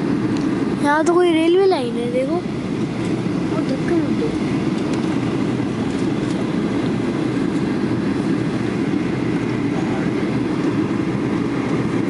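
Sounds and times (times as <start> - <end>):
airliner cabin roar in flight: 0.0 - 12.0.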